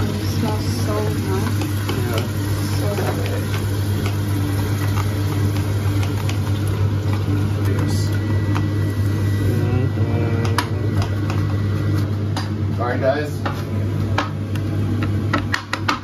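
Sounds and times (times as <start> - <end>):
appliance motor humming: 0.0 - 16.0.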